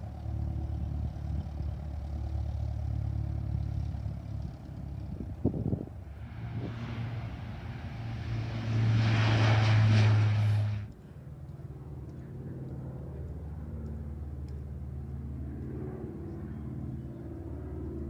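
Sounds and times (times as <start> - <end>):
distant aircraft drone overhead: 0.0 - 18.0
turboprop airliner propellers running: 0.0 - 18.0.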